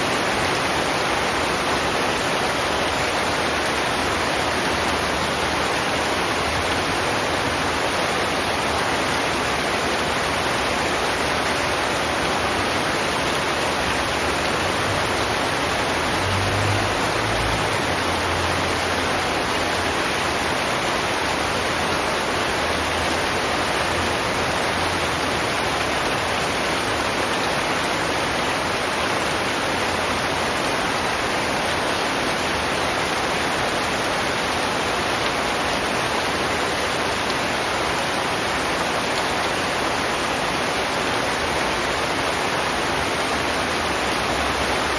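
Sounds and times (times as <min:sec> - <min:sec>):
heavy rain hissing: 0:00.0 - 0:44.9.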